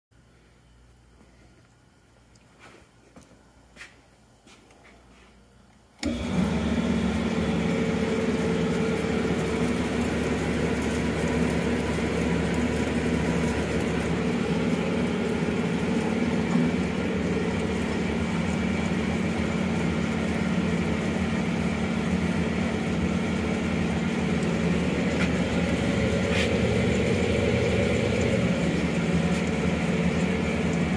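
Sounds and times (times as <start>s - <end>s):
bandsaw motor humming: 6.0s - 30.9s.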